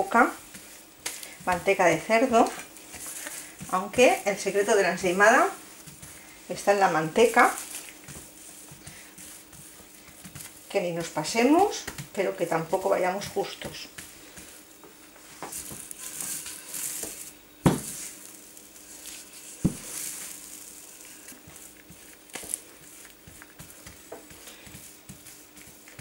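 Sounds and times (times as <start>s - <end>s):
hands smearing lard on dough: 0.0s - 26.0s
plastic gloves rustling: 0.0s - 26.0s.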